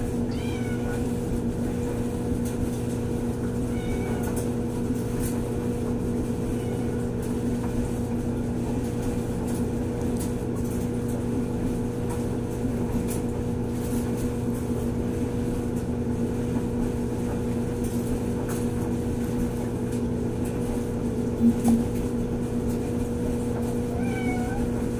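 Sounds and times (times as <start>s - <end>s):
steady machine hum: 0.0s - 24.9s.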